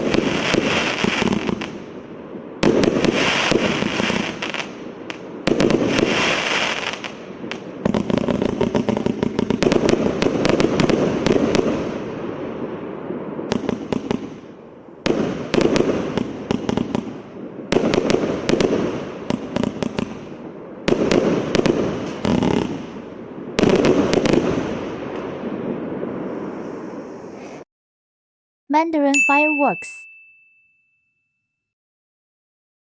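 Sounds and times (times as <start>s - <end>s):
firework cake firing volleys: 0.0s - 27.7s.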